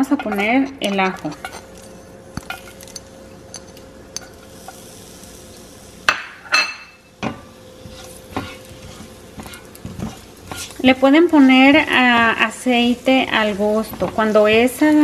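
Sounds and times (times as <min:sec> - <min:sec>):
garlic crackling in hot oil: 0:00.0 - 0:06.4, 0:07.0 - 0:15.0.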